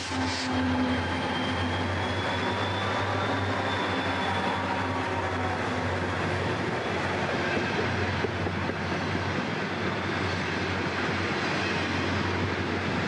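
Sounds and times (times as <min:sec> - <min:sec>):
diesel locomotive drone: 0:00.0 - 0:13.0
rail and wheel noise: 0:00.0 - 0:13.0.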